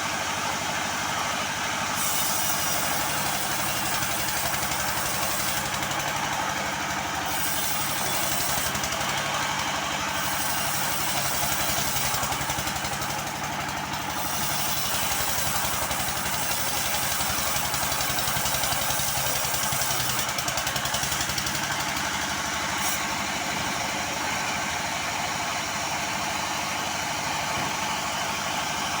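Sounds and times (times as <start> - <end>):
power tool running: 0.0 - 29.0.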